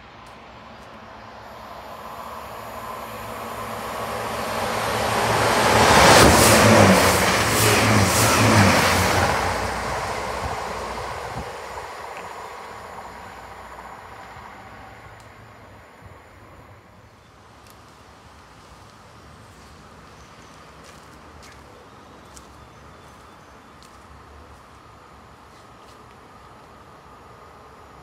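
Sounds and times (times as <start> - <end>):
diesel train passing at speed: 0.0 - 28.0.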